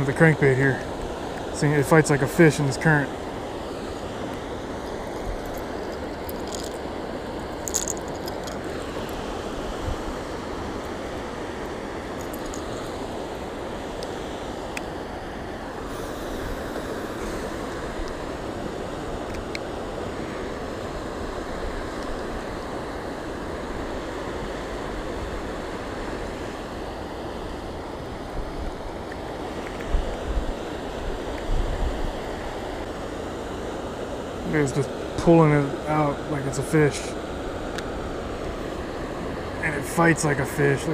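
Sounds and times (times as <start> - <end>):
floodwater rushing: 0.0 - 31.4, 32.0 - 40.9.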